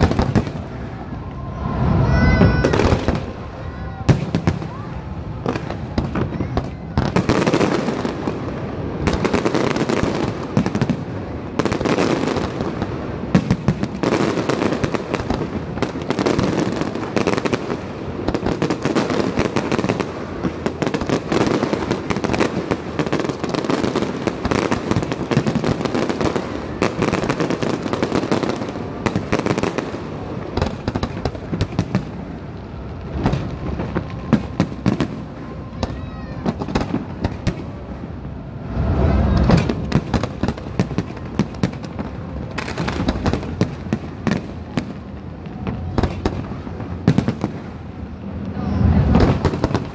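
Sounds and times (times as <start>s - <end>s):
firework bangs and crackles: 0.0s - 49.9s.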